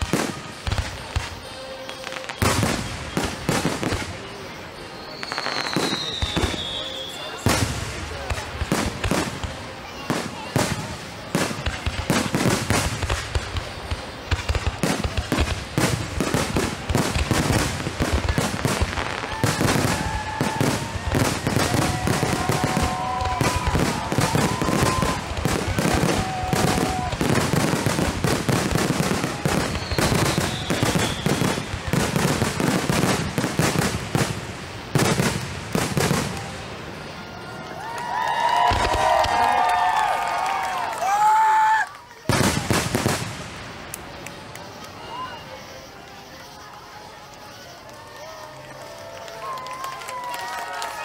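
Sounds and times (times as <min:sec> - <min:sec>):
fireworks bangs and crackles: 0:00.0 - 0:51.0
fireworks whistling: 0:00.0 - 0:51.0.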